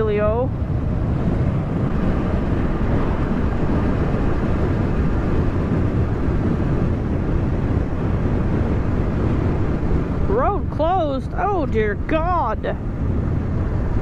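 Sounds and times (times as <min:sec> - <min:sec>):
road noise: 0:00.0 - 0:14.0
wind rush on helmet: 0:00.0 - 0:14.0.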